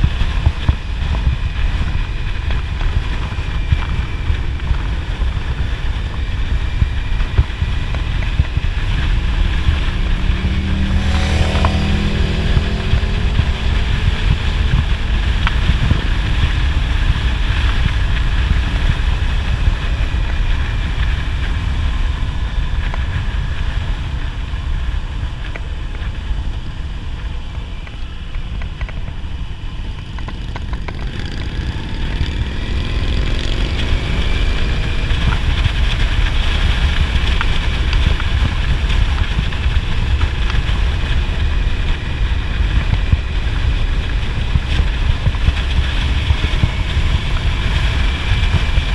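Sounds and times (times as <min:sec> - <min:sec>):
motorcycle engine running: 0:00.0 - 0:48.9
wind buffeting microphone: 0:00.0 - 0:48.9.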